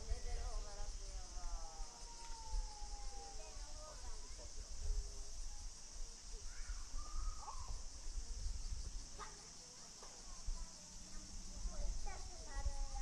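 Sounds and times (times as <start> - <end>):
faint distant calls or voices: 0.0 - 13.0
high insect drone: 0.0 - 13.0.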